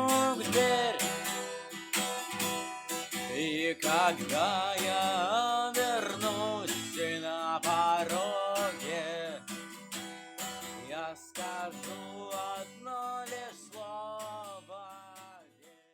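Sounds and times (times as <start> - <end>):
acoustic guitar strumming chords: 0.0 - 15.5.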